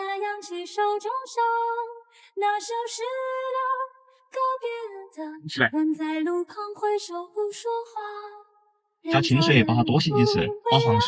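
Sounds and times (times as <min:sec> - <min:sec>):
woman singing slow melody: 0:00.0 - 0:08.4, 0:09.1 - 0:11.0.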